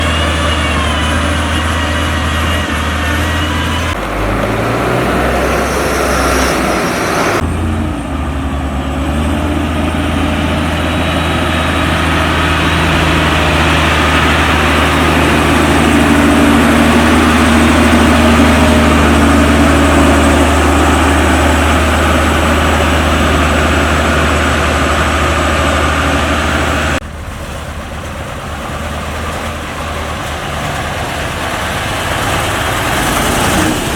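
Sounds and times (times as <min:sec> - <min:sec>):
heavy diesel engines droning: 0:00.0 - 0:33.9.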